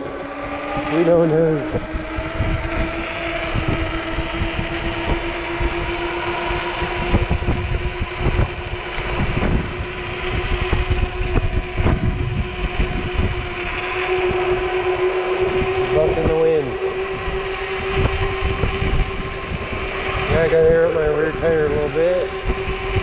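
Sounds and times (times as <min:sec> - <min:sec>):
electric motor whine: 0:00.0 - 0:23.0
wind buffeting microphone: 0:00.0 - 0:23.0.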